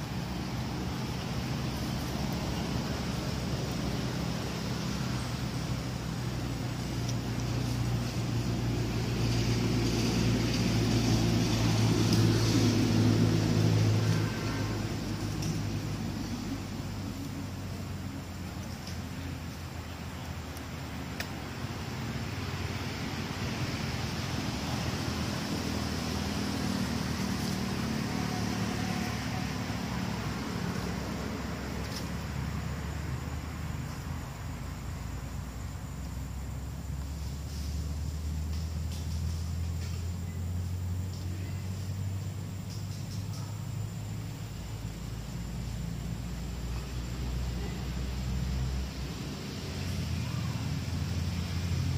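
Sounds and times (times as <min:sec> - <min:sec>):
background hiss: 0:00.0 - 0:51.9
engine humming: 0:00.0 - 0:51.9.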